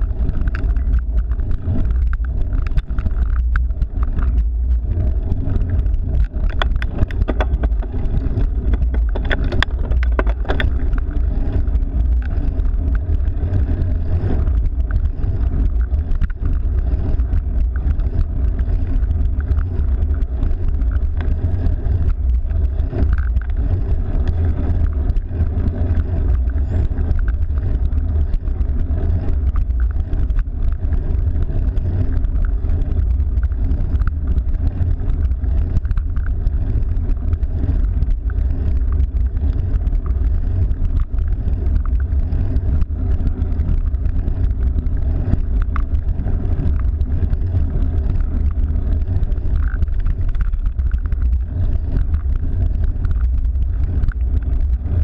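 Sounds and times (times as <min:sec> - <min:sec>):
faint clicks: 0:00.0 - 0:55.0
wind buffeting microphone: 0:00.0 - 0:55.0.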